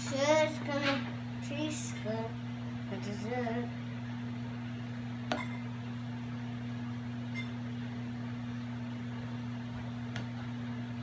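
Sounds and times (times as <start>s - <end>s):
electrical hum of appliance: 0.0s - 11.0s.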